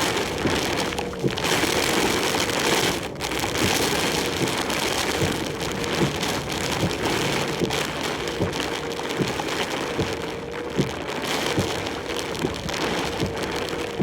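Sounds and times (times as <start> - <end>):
heavy rain and wind on truck cab: 0.0 - 14.0.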